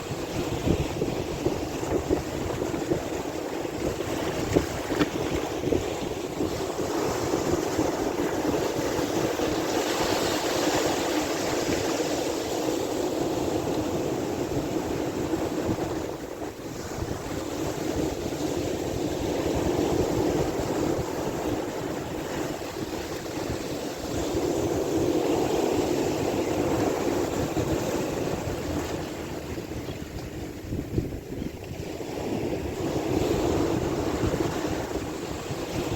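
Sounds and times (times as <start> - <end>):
sea waves washing: 0.0 - 30.8, 31.6 - 35.9
wind buffeting microphone: 0.0 - 35.9.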